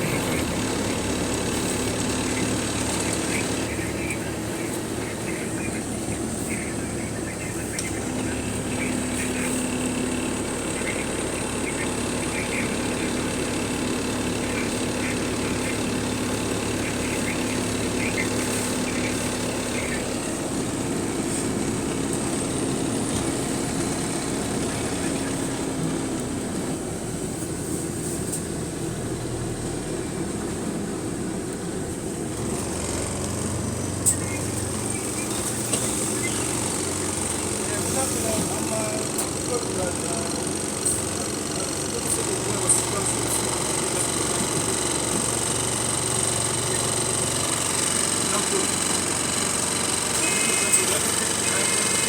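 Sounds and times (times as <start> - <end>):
bus engine hum: 0.0 - 52.0.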